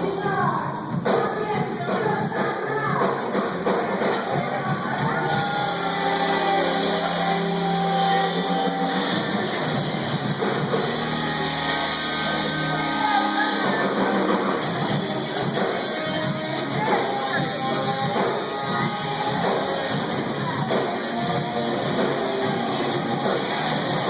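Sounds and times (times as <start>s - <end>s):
electric guitar: 0.0s - 24.0s
live rock band playing: 0.0s - 24.0s.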